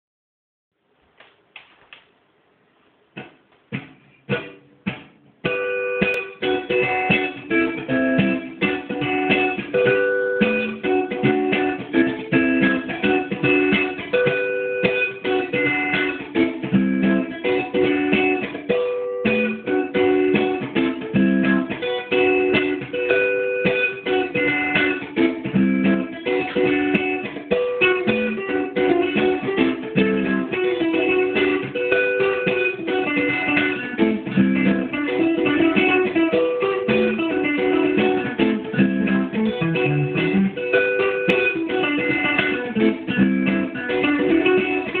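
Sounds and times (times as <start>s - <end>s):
guitar plucked notes: 3.2s - 45.0s.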